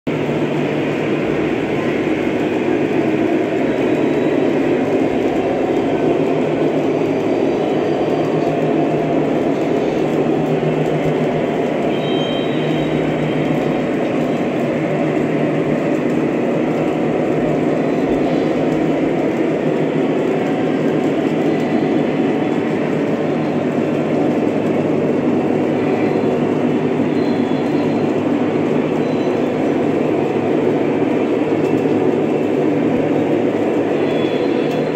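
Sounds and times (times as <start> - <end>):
model trains rumbling: 0.1 - 34.9.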